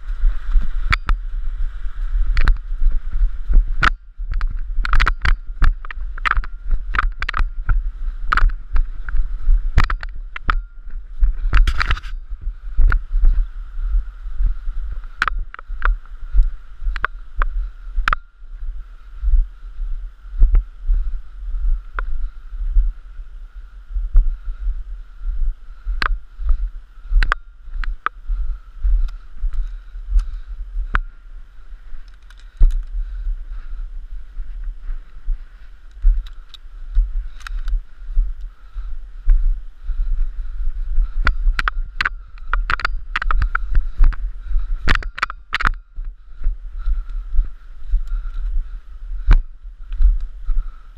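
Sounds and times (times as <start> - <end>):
footsteps in snow: 0.0 - 50.9.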